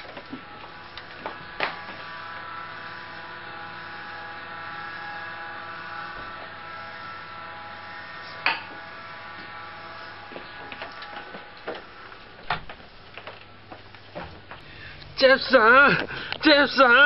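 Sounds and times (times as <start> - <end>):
small electric motor buzzing: 0.0 - 14.3.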